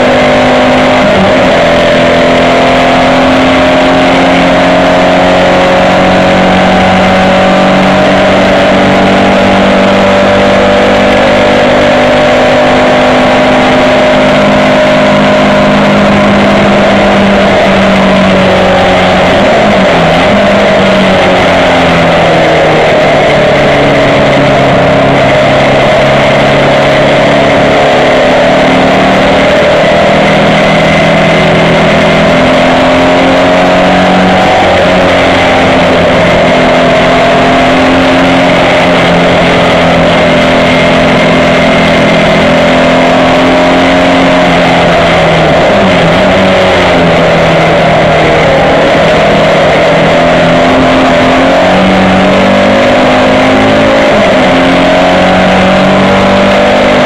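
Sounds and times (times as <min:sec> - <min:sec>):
racing car engine: 0:00.0 - 0:57.0.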